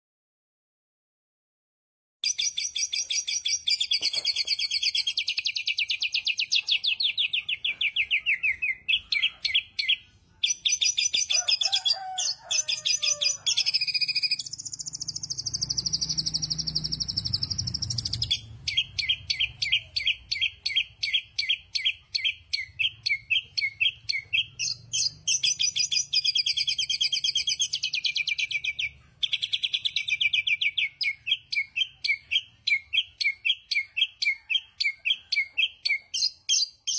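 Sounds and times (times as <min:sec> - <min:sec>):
bird chirping: 0:02.2 - 0:36.9.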